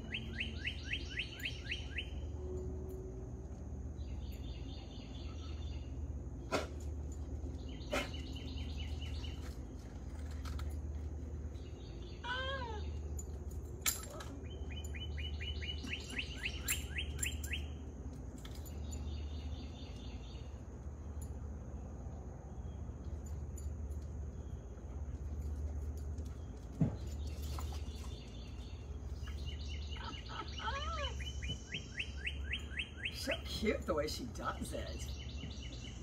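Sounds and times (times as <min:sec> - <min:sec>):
songbird chirping: 0:00.0 - 0:36.0.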